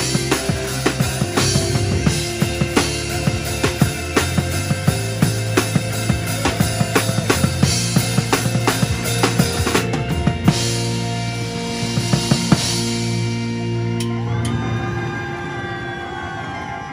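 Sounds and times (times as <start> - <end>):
drum fills: 0.0 - 15.1
backing music: 0.0 - 16.8.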